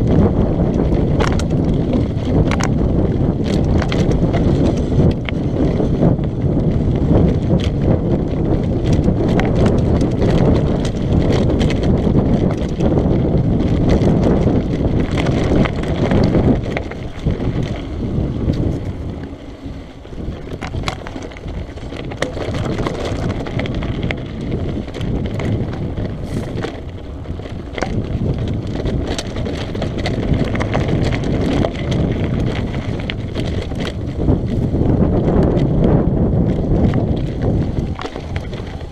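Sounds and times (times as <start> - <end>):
bike rattling: 0.0 - 38.9
tyres crunching over gravel: 0.0 - 38.9
wind buffeting microphone: 0.0 - 38.9.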